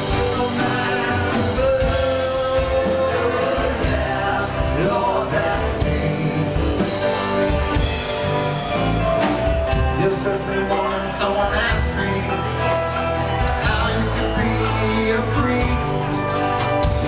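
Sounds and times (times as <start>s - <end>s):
drums: 0.0s - 17.0s
guitars: 0.0s - 17.0s
person singing: 0.0s - 17.0s.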